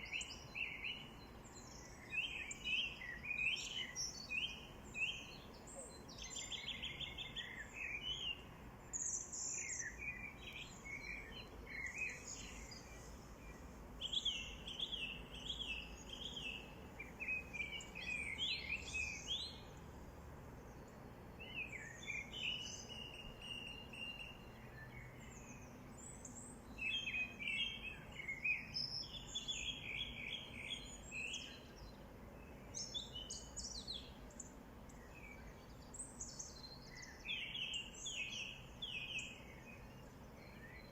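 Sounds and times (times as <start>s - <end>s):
faint outdoor background: 0.0s - 40.9s
songbirds chirping and singing: 0.0s - 40.9s.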